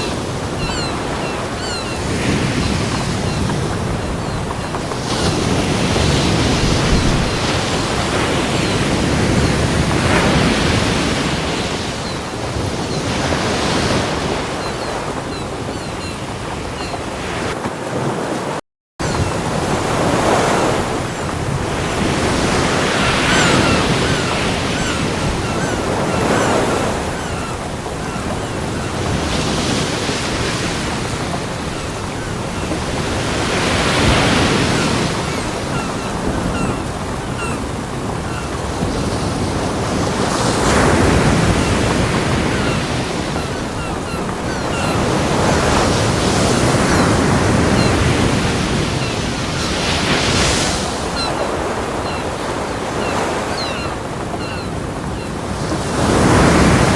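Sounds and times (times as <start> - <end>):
ocean waves breaking on beach: 0.0 - 56.9.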